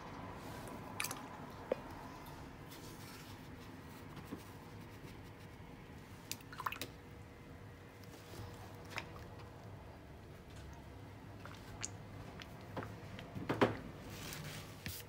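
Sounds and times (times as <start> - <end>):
low steady hum: 0.0 - 15.0
brush squishing on wet paper: 0.1 - 6.4, 8.0 - 13.0, 14.0 - 15.0.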